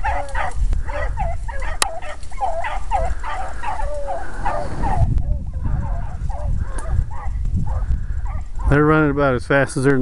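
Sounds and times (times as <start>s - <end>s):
hounds baying: 0.0s - 9.0s.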